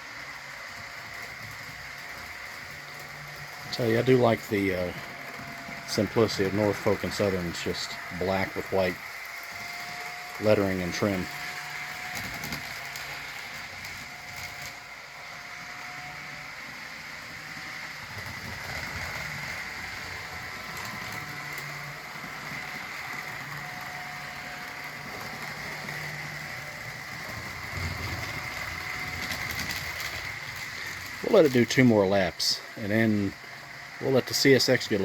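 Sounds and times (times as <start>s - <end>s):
model train motor whine: 0.0s - 35.0s.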